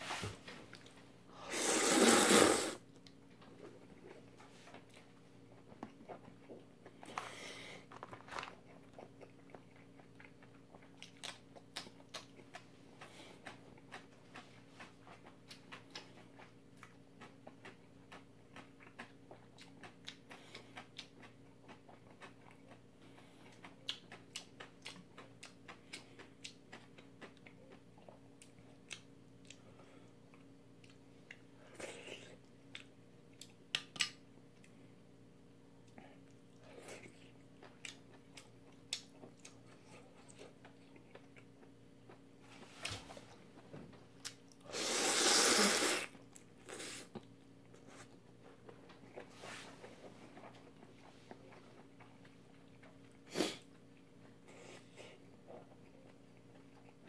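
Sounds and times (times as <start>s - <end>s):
faint low hum: 0.0s - 57.0s
person chewing: 1.6s - 34.8s, 35.8s - 43.4s, 44.2s - 57.0s.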